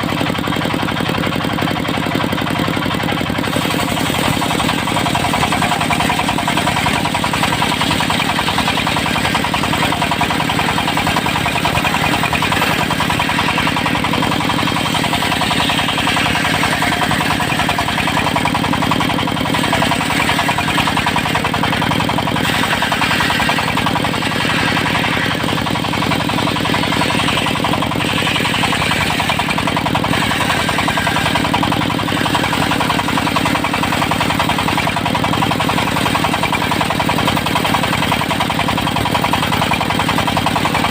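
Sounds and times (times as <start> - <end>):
diesel engine running: 0.0 - 40.9
saw blade cutting wood: 0.0 - 40.9.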